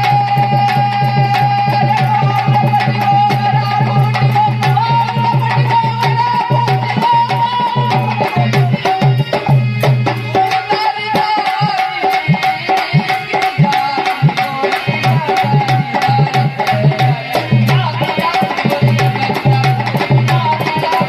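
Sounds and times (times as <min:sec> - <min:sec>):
dholak drumming: 0:00.0 - 0:21.0.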